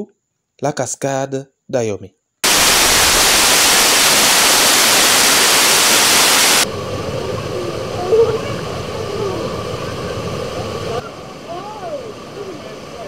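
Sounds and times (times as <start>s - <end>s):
quieter rush of water: 2.4s - 13.0s
waterfall roaring: 2.4s - 13.0s.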